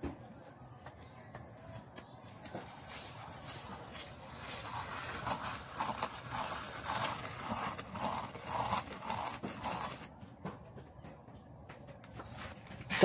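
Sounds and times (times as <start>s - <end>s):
potter's wheel turning: 0.0s - 11.2s.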